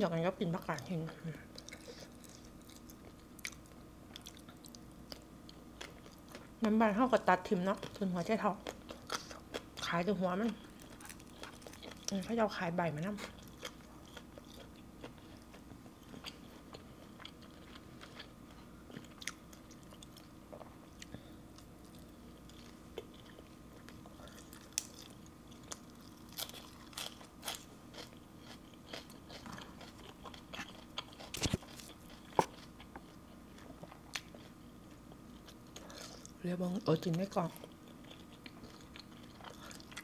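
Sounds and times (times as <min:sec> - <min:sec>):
person chewing: 0:01.5 - 0:06.5, 0:08.6 - 0:09.9, 0:10.6 - 0:12.2, 0:13.2 - 0:36.4, 0:37.6 - 0:40.0.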